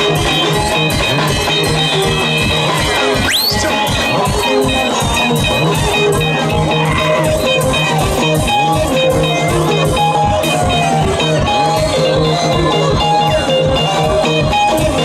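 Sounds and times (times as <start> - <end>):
bass guitar: 0.0 - 15.0
drum kit steady beat: 0.0 - 15.0
electric guitar riffs: 0.0 - 15.0.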